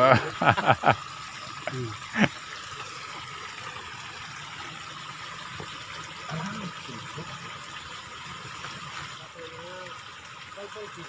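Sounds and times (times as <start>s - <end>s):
water rushing along a ditch: 0.0s - 11.0s.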